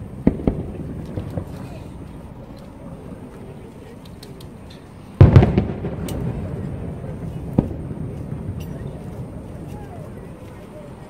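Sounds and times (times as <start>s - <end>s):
firework sharp crack: 0.0s - 10.5s
firework pops: 0.2s - 3.4s, 4.0s - 10.0s.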